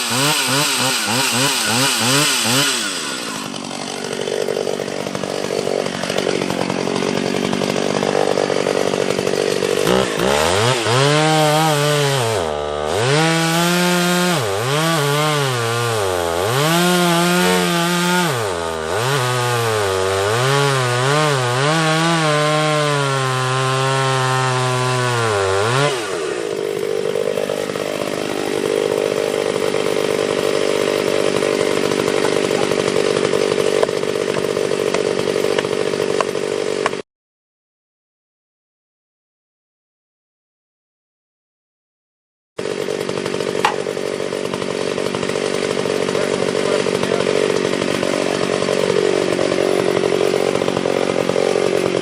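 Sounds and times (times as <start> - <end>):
chainsaw cutting tree trunk: 0.0 - 37.1, 42.6 - 52.0.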